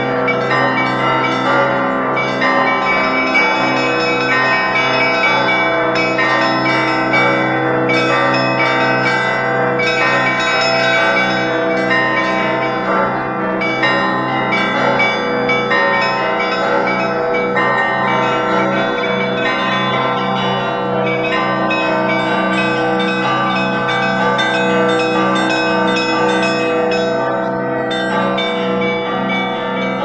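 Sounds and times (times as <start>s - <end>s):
church bells pealing: 0.0s - 30.0s.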